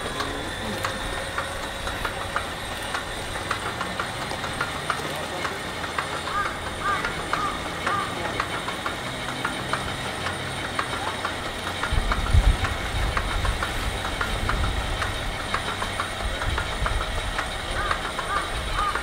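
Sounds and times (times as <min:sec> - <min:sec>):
radial engine turned over by starter: 0:00.0 - 0:19.0
rhythmic clicking: 0:00.0 - 0:19.0.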